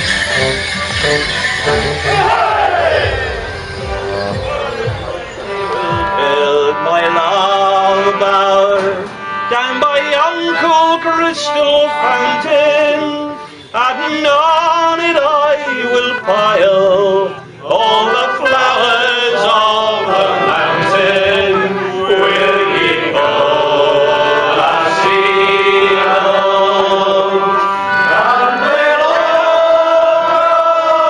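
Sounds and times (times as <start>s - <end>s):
music with voices singing: 0.0s - 31.0s.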